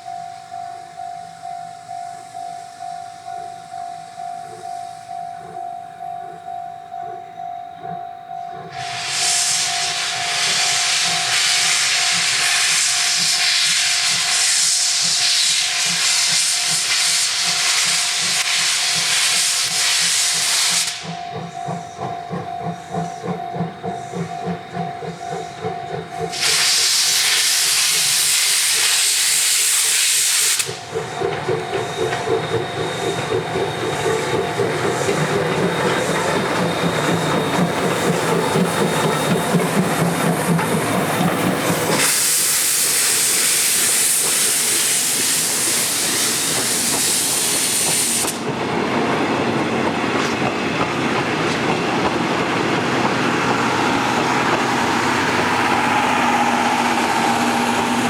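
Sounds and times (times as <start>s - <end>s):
steam locomotive exhaust chuffing: 0.0s - 58.0s
steam venting loud hisses: 8.7s - 58.0s.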